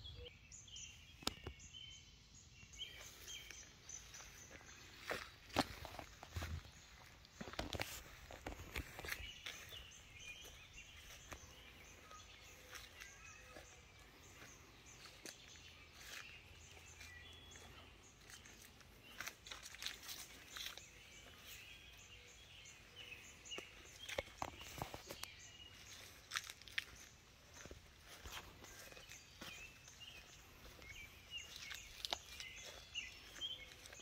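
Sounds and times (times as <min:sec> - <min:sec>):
faint bird chirps: 0:00.0 - 0:34.0
footsteps on grass: 0:02.8 - 0:34.0.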